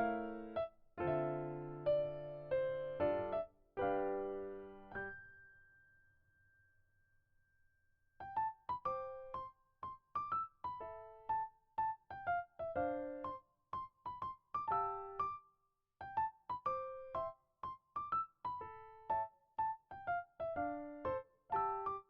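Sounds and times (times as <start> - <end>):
electric piano melody: 0.0 - 5.4, 8.2 - 15.4, 16.0 - 22.0.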